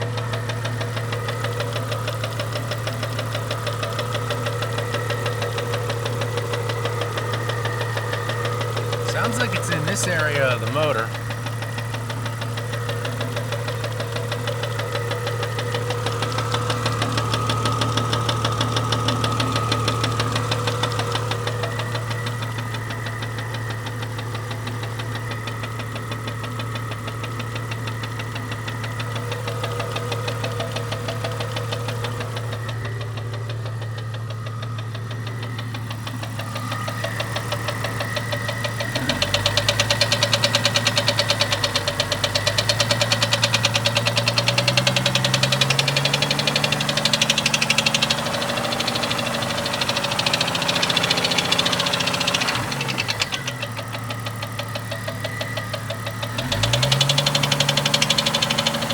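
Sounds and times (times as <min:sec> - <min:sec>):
car engine running: 0:00.0 - 0:58.9
rapid regular engine ticking: 0:00.0 - 0:58.9.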